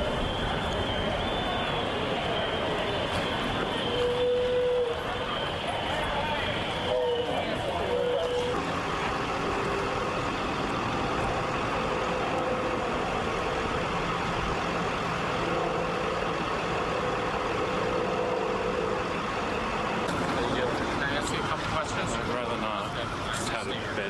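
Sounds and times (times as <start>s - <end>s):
steady engine rumbling: 0.0s - 24.0s.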